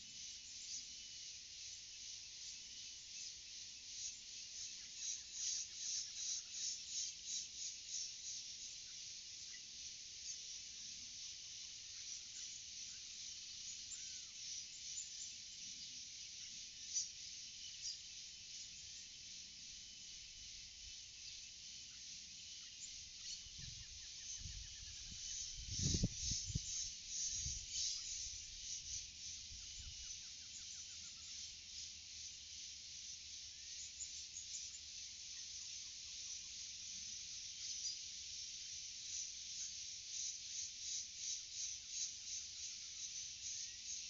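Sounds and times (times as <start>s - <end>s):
forest insects buzzing: 0.0s - 44.0s.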